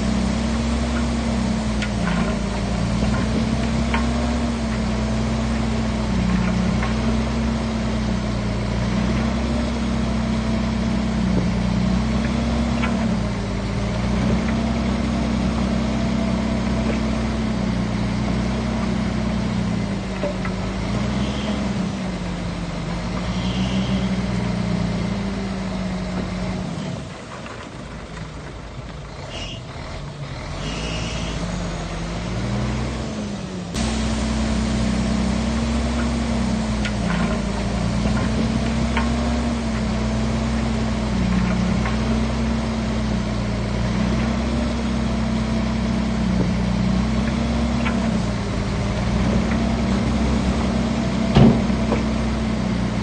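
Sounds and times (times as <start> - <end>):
bulldozer diesel engine under load: 0.0 - 53.0.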